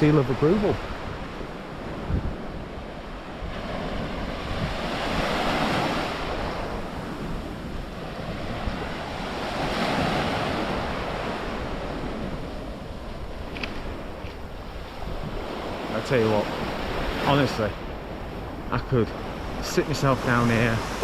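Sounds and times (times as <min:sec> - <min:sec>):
sea waves breaking: 0:00.0 - 0:21.0
wind on microphone: 0:00.0 - 0:21.0.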